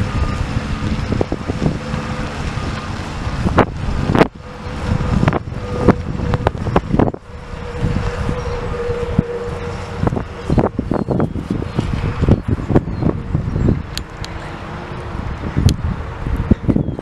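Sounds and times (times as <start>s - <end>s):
faint steady whine: 0.0s - 15.8s
diesel engine idling: 0.0s - 16.5s
wind buffeting the microphone: 0.0s - 17.0s.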